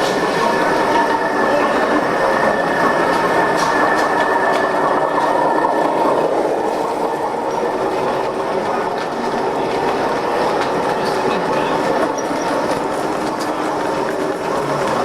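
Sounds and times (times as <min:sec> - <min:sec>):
high steady whine: 0:00.0 - 0:15.0
model train rolling on track: 0:00.0 - 0:15.0.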